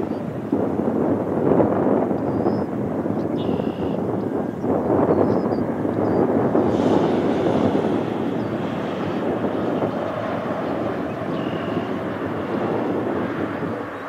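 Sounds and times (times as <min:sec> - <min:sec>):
jet engines at takeoff: 0:00.0 - 0:14.0.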